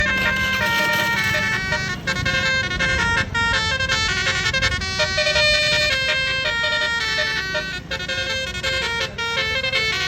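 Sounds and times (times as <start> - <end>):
multi-tone bus horn melody: 0.0 - 10.0.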